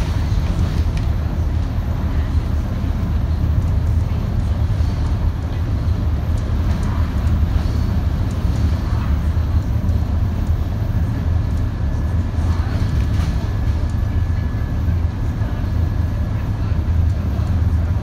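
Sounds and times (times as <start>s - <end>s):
bus engine drone: 0.0s - 18.0s
road rumble: 0.0s - 18.0s.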